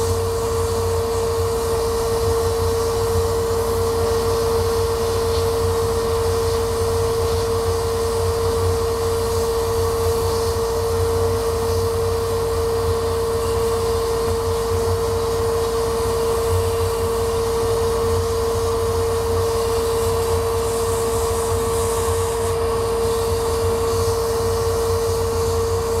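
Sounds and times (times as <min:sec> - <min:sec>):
laser cutter humming: 0:00.0 - 0:26.0.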